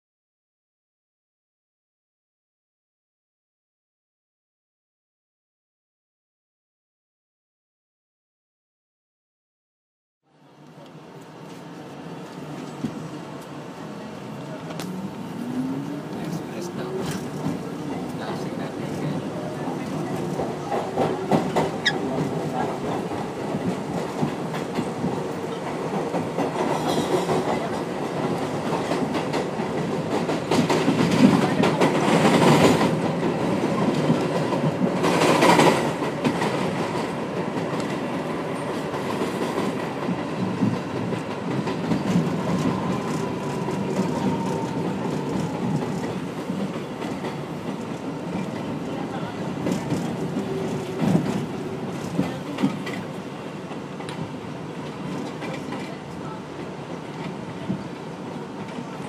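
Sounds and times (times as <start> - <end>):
subway train rumble: 10.3 - 59.0
rushes of train noise: 10.6 - 59.0.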